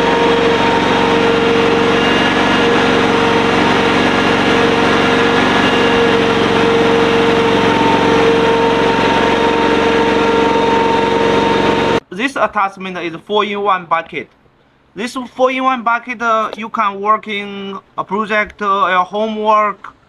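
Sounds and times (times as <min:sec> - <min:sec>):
petrol engine running steadily: 0:00.0 - 0:19.2.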